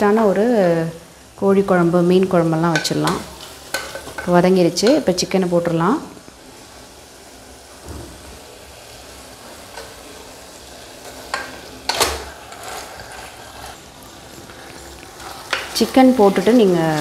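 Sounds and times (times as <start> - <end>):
masala sizzling in a pot: 0.0 - 17.0.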